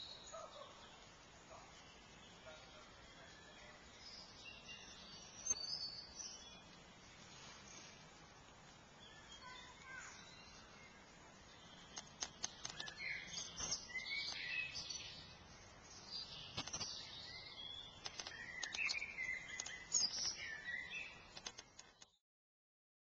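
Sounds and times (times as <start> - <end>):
birds chirping and singing: 0.0 - 8.0, 8.9 - 22.2.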